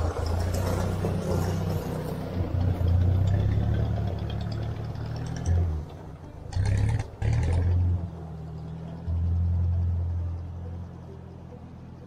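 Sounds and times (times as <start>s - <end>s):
tractor engine passing: 0.0s - 12.0s.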